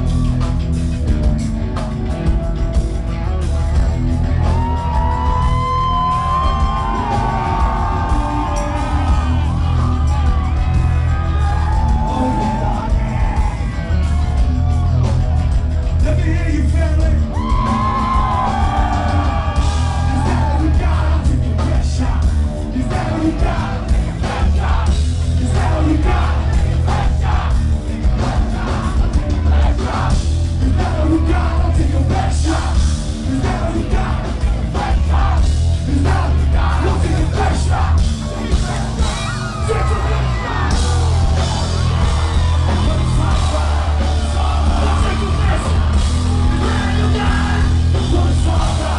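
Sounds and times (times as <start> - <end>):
rock band playing: 0.0 - 48.9
yelled sung vocals: 4.2 - 48.9.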